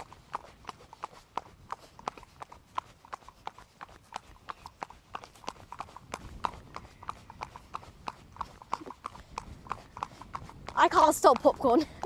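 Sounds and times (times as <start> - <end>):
hooves clip-clopping on tarmac: 0.0 - 12.0.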